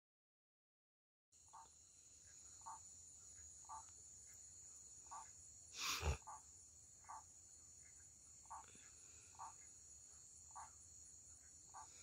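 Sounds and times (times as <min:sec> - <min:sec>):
crickets droning: 0:01.4 - 0:12.0.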